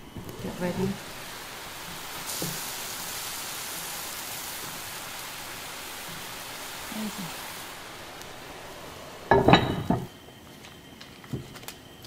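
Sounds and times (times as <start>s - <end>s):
food simmering in a skillet: 0.0s - 12.0s.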